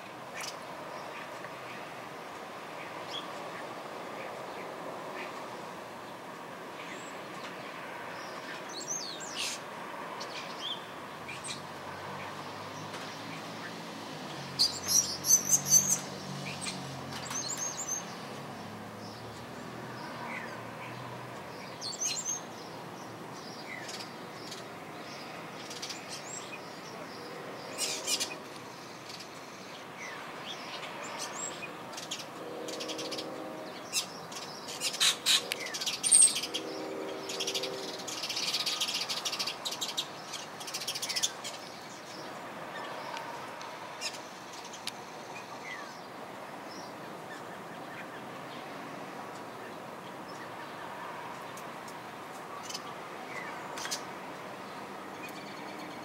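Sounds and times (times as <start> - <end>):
starlings calling: 6.8 - 48.7, 52.5 - 56.0.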